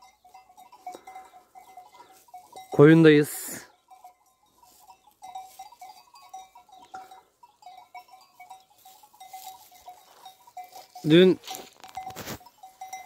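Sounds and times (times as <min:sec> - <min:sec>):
sheep bells clinking: 0:00.0 - 0:13.0.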